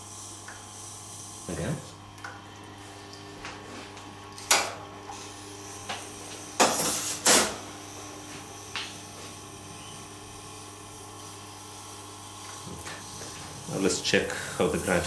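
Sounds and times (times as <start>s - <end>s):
sharpening machine humming: 0.0s - 2.0s, 2.8s - 15.0s.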